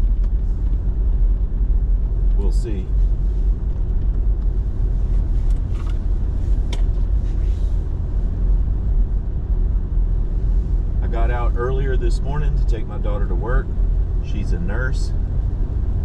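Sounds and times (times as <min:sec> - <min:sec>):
truck driving on snowy road: 0:00.0 - 0:16.0.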